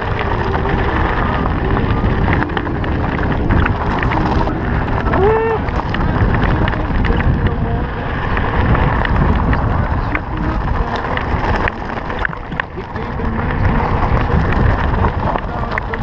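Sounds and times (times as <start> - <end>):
bike clicks and rattles: 0.0 - 16.0
tyres crunching over gravel: 0.0 - 16.0
wind buffeting microphone: 0.0 - 16.0.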